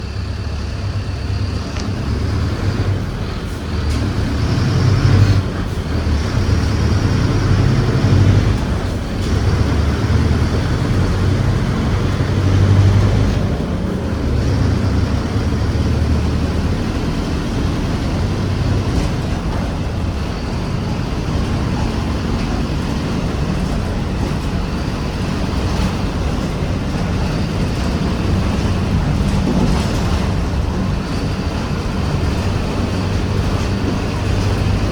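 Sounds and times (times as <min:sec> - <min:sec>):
bus diesel engine running: 0:00.0 - 0:34.9.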